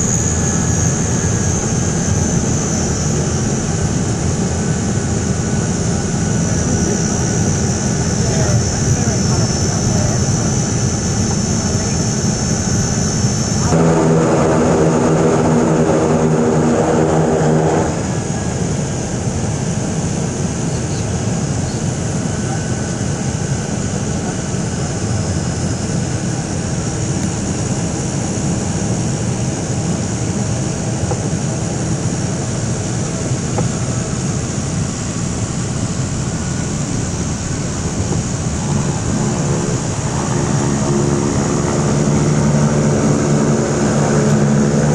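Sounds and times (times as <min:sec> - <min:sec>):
propeller hum: 0:00.0 - 0:44.9
turboprop engines running: 0:00.0 - 0:44.9.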